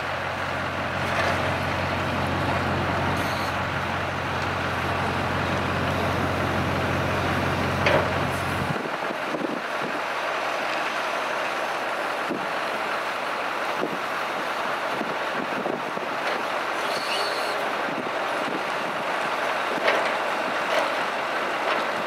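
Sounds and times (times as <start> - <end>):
broad rushing noise: 0.0 - 22.0
excavator diesel engine droning: 0.0 - 22.0.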